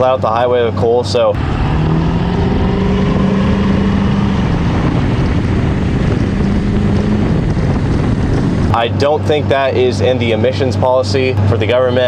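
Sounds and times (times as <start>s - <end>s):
diesel engine running under load: 0.0s - 12.0s
wind on microphone: 1.4s - 11.5s.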